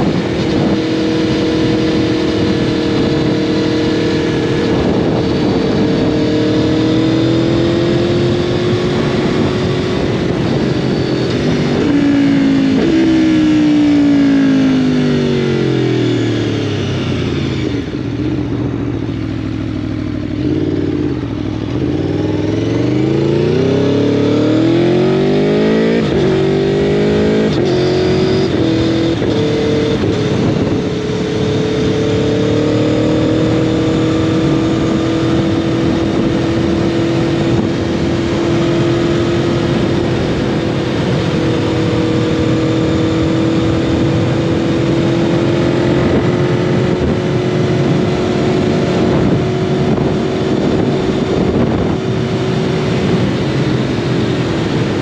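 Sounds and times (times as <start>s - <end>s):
motorcycle engine accelerating: 0.0s - 55.0s
wind noise: 0.0s - 55.0s.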